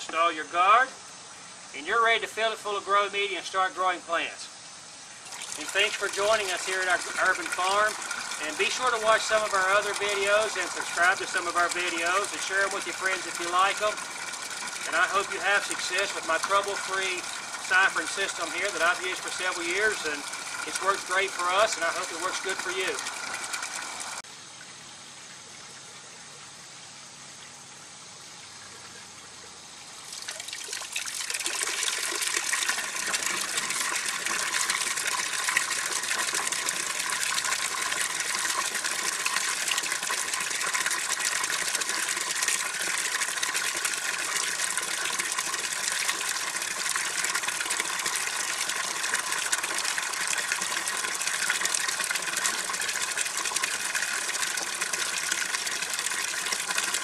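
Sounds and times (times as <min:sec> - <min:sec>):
water gushing through siphon: 0:04.9 - 0:24.2, 0:29.8 - 0:57.0.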